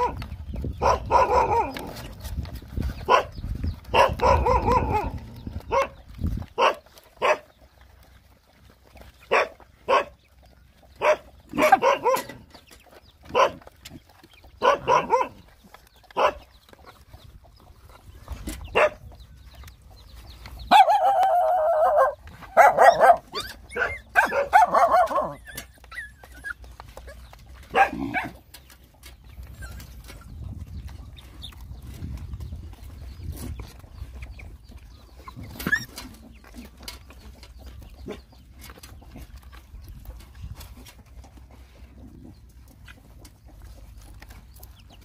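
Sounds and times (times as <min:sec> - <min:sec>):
dogs barking and yipping: 0:00.0 - 0:45.0.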